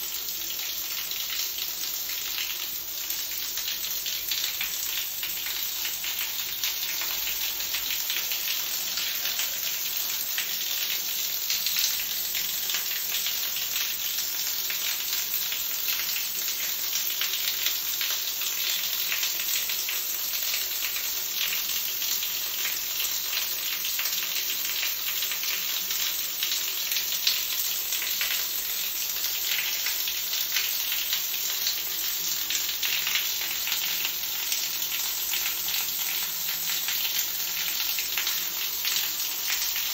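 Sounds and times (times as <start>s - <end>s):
water spattering on tiled floor: 0.0s - 39.9s.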